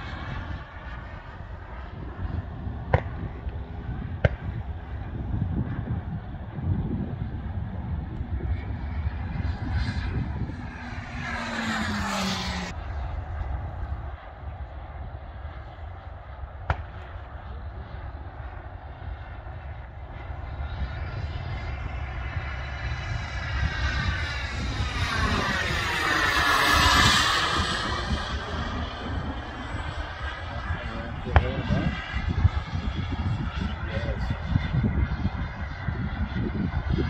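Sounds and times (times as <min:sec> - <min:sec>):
model jet turbine passing: 0:00.0 - 0:37.0.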